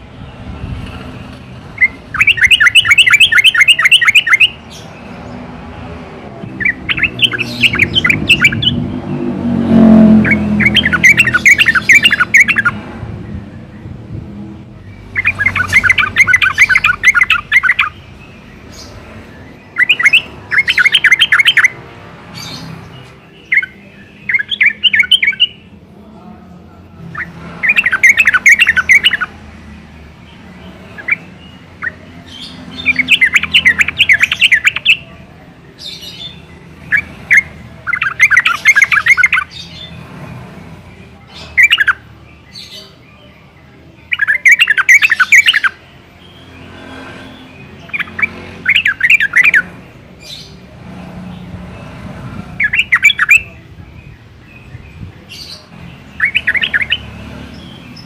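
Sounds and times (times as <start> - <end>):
bird singing chattering notes: 0.0 - 25.9, 27.0 - 58.0.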